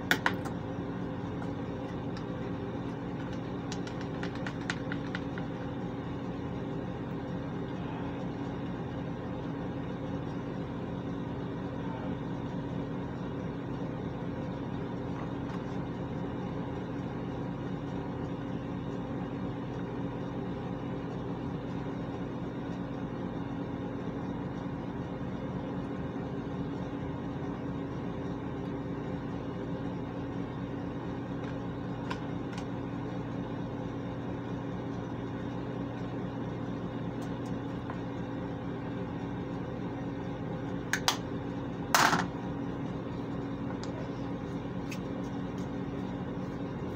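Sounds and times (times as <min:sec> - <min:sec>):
exhaust fan humming: 0:00.0 - 0:46.9.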